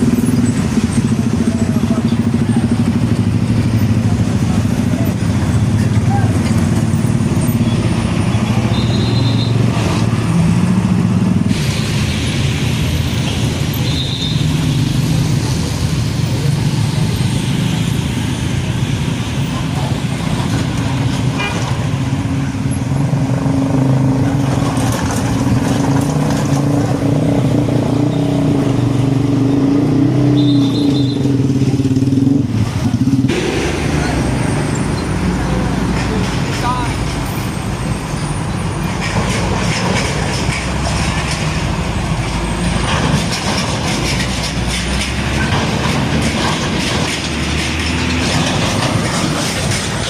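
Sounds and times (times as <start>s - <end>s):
diesel trucks driving past: 0.0s - 50.0s.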